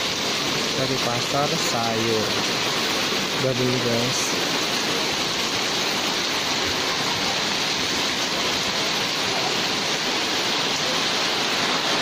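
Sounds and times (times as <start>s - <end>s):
heavy rain on tarpaulin: 0.0s - 12.0s
water streaming off awnings: 0.0s - 12.0s.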